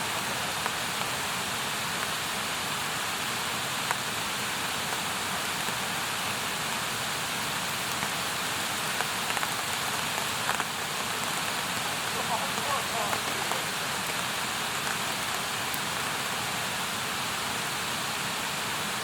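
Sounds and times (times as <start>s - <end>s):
campfire hissing: 0.0s - 19.0s
fire crackles and pops: 0.1s - 6.7s, 7.5s - 17.8s.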